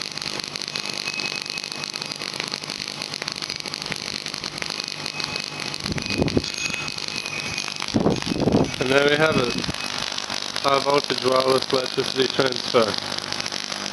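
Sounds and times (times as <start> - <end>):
tesla coil buzzing hiss: 0.0 - 13.9.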